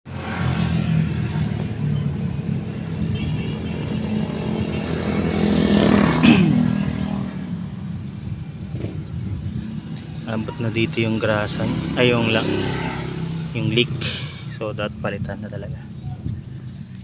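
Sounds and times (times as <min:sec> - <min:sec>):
vehicle passing by: 0:00.1 - 0:14.6.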